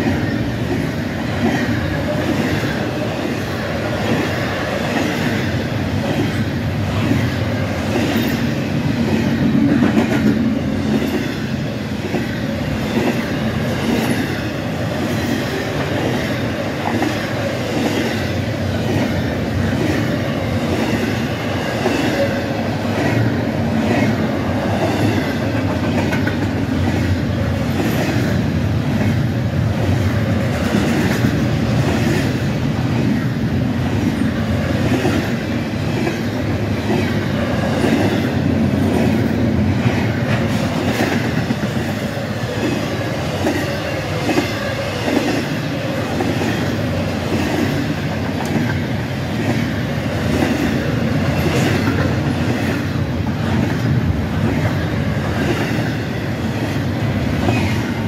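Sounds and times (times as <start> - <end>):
freight train rumble: 0.0 - 58.0.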